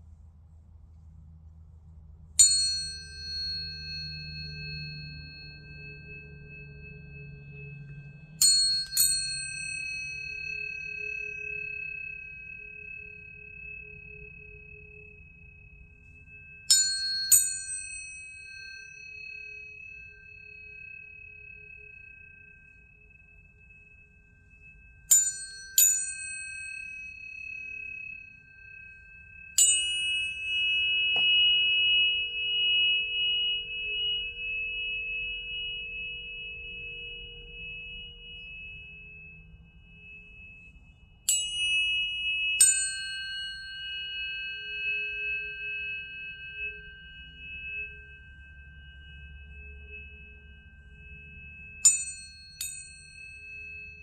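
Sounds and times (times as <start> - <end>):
tuning forks ringing: 2.4 - 54.0.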